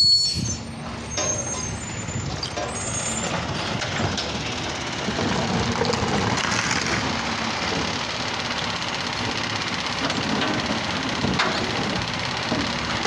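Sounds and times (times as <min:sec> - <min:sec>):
garbage truck diesel engine running: 0:00.0 - 0:13.0
hydraulic arm lifting trash cart: 0:00.1 - 0:13.0.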